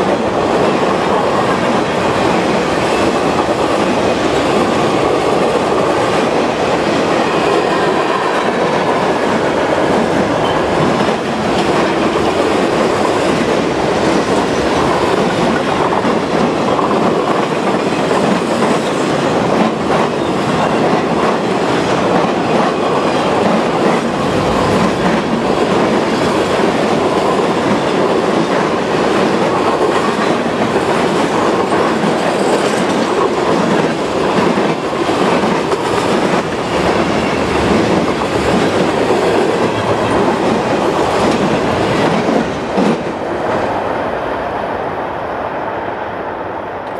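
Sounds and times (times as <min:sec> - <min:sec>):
clickety-clack over rail joints: 0:00.0 - 0:43.2
train wheels rumbling on rails: 0:00.0 - 0:44.9.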